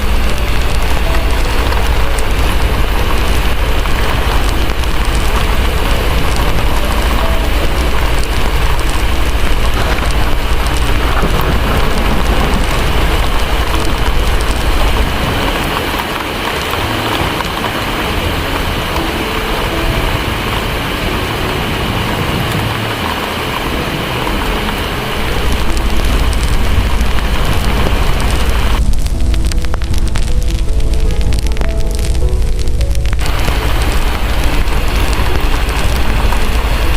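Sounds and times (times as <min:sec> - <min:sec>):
distant thunder rumble: 0:00.0 - 0:36.9
heavy rain: 0:00.0 - 0:36.9.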